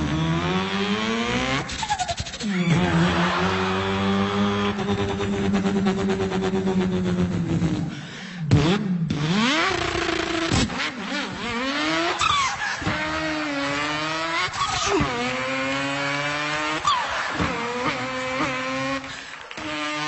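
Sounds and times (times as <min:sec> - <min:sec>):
man imitating car engine: 0:00.0 - 0:10.6, 0:11.5 - 0:20.0.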